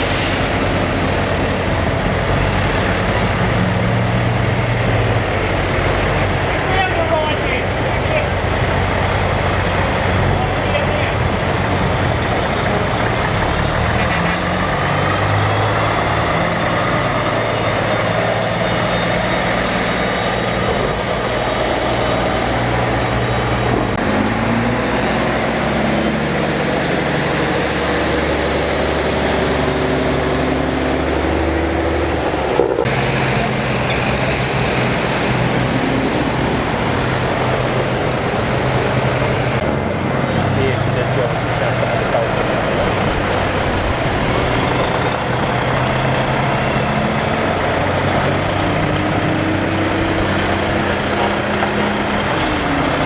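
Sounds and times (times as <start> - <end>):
trucks driving past: 0.0 - 53.0.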